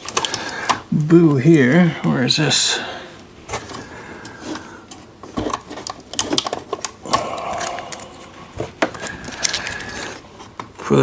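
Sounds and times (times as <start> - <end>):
plastic parts clicking and rattling: 0.0 - 1.9, 3.2 - 11.0.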